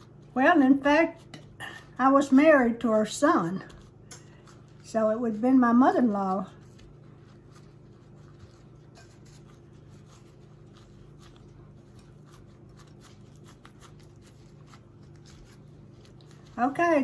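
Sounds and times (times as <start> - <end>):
low steady hum: 0.0 - 17.0
gloved hands rustling and patting: 1.2 - 17.0.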